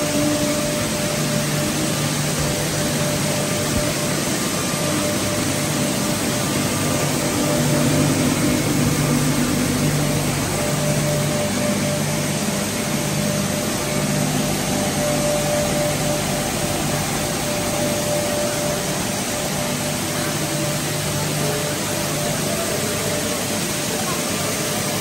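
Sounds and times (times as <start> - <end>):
faint steady whine: 0.0 - 25.0
low machine hum: 0.0 - 25.0.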